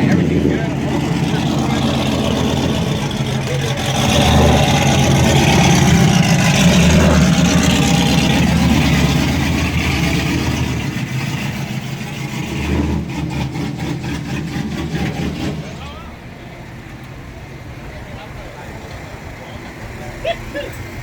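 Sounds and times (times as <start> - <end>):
vehicle engine under throttle: 0.0 - 21.0.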